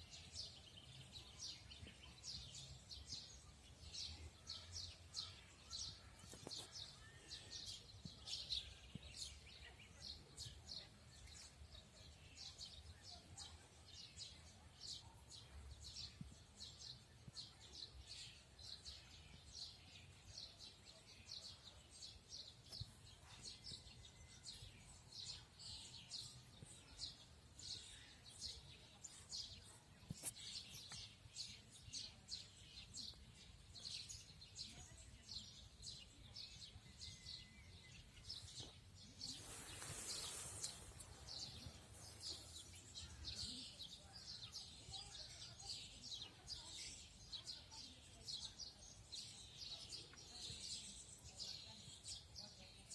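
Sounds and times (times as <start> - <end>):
birds chirping: 0.2 - 52.9.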